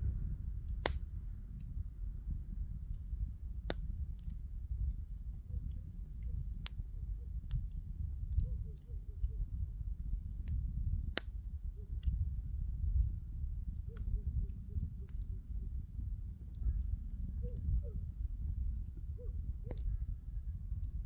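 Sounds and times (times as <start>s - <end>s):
fire low rumble: 0.0s - 21.0s
bonfire crackling and popping: 0.2s - 21.0s.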